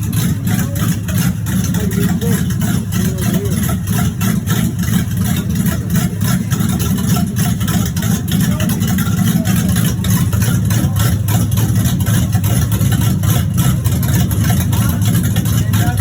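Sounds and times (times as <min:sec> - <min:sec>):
engine running with knocking: 0:00.0 - 0:16.0.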